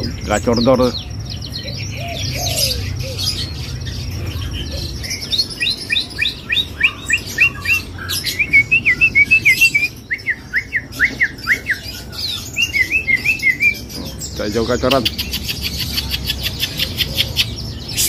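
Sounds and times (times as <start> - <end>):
birds chirping: 0.0 - 18.0
songbird singing: 0.0 - 18.0.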